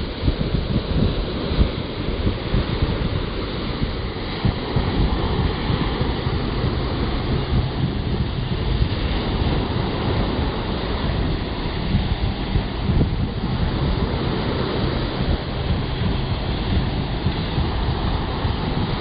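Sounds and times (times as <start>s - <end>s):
small waves breaking on beach: 0.0s - 19.0s
wind buffeting microphone: 0.0s - 19.0s.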